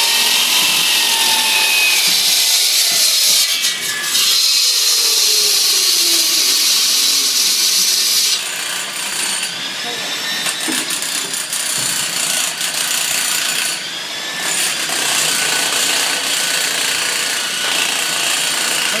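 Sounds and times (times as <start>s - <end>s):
saw grinding concrete: 0.0s - 19.0s.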